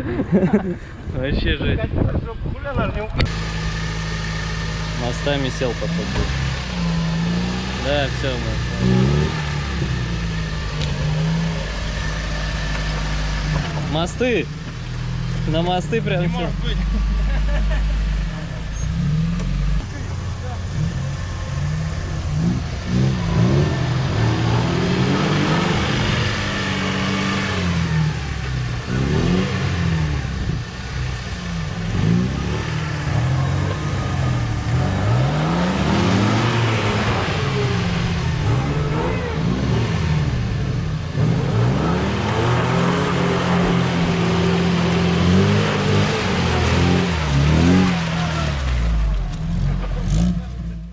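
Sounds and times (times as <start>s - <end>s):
off-road vehicle engine revving: 0.0s - 50.9s.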